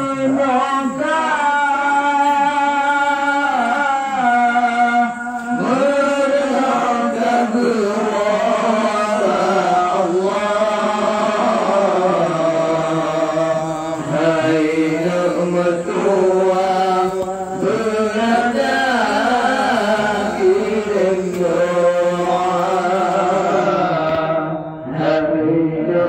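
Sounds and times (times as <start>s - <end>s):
man chanting into microphone: 0.0s - 26.0s.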